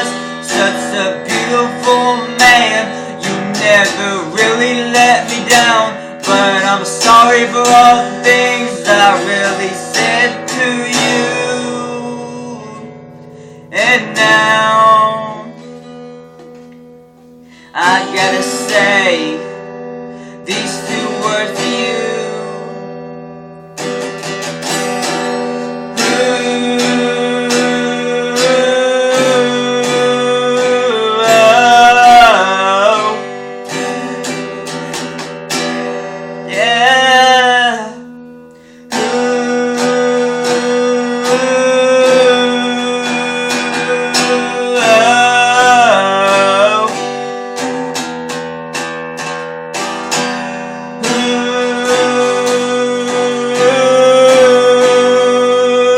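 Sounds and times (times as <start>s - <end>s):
guitar strumming: 0.0s - 55.9s.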